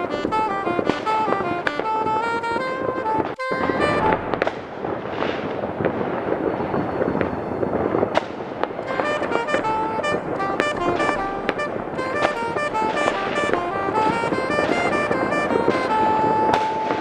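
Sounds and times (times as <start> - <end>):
fireworks bangs: 0.0 - 17.0
fireworks crackling and popping: 0.0 - 17.0
music playing: 0.0 - 17.0.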